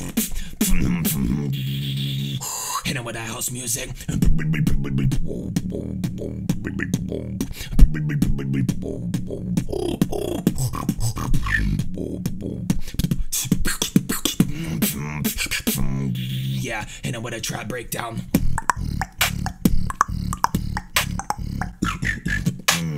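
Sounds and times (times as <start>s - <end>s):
beatboxing: 0.0s - 22.9s.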